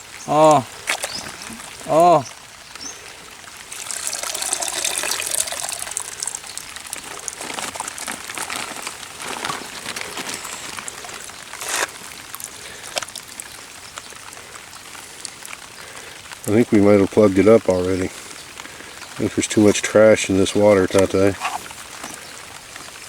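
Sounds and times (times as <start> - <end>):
water gushing from pump outflow: 0.0 - 23.0.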